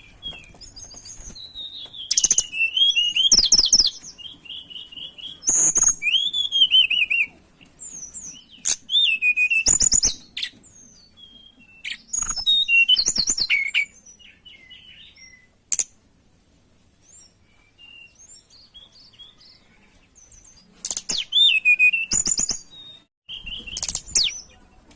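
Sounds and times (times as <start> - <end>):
songbird whistles and trills: 0.0 - 15.9, 17.0 - 24.8.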